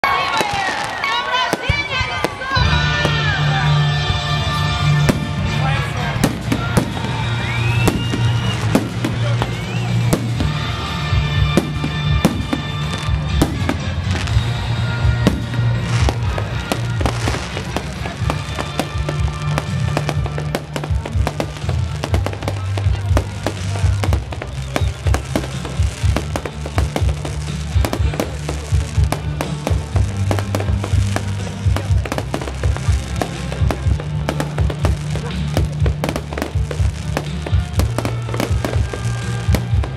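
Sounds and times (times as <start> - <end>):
fireworks bangs and crackles: 0.0 - 39.9
music playing: 0.0 - 39.9.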